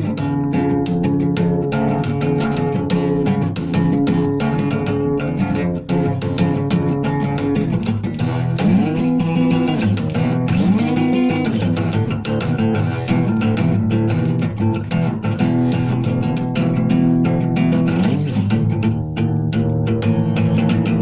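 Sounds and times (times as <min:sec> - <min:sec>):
guitar music with bass line: 0:00.0 - 0:21.0.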